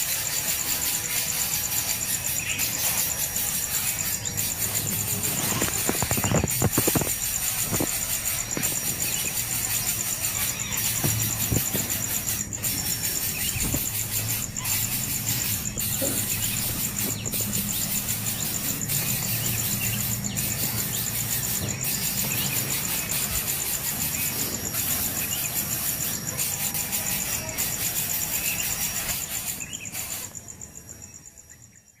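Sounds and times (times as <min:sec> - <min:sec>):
nestling birds begging calls: 0:00.0 - 0:30.4.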